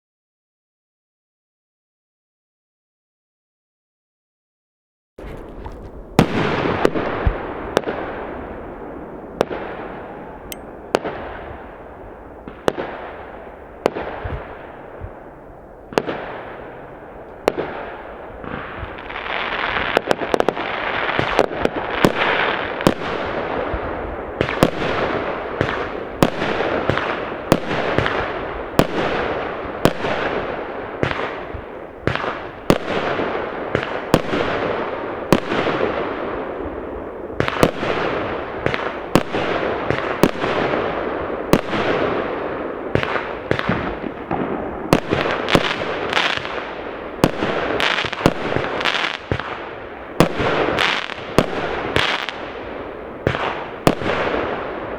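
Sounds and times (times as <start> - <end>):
fireworks bangs with echo: 6.1 - 54.9.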